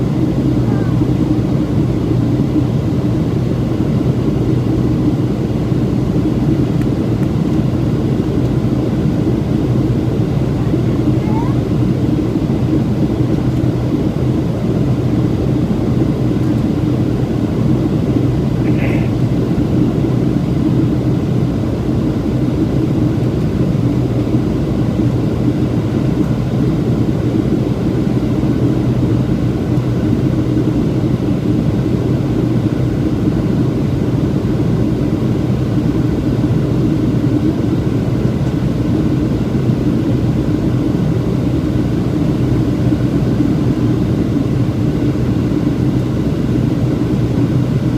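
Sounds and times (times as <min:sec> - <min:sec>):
jet airliner cabin drone: 0:00.0 - 0:47.9.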